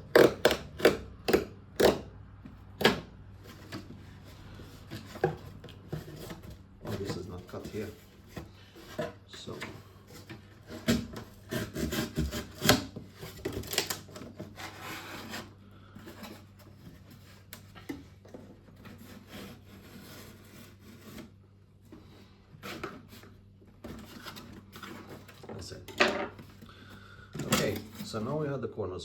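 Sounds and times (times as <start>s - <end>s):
knife cutting cardboard: 0.0s - 2.1s, 2.7s - 21.4s, 22.0s - 25.6s
cardboard rustling: 2.5s - 28.4s.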